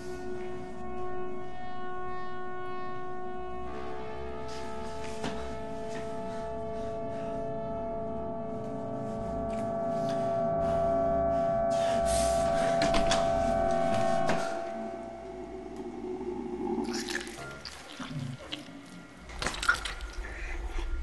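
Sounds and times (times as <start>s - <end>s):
tense droning film music: 0.0s - 21.0s.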